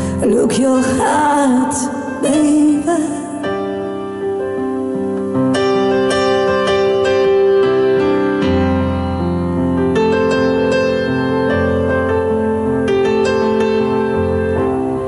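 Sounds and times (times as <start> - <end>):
keyboard piano ballad: 0.0 - 15.0.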